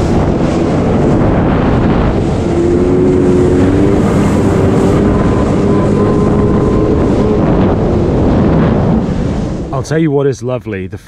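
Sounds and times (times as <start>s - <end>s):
wind buffeting microphone: 0.0s - 10.3s
water rushing past hull: 0.0s - 10.4s.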